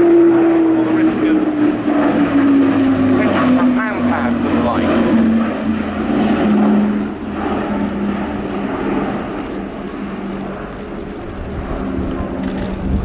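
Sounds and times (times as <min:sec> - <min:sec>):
aircraft propeller hum: 0:00.0 - 0:13.0.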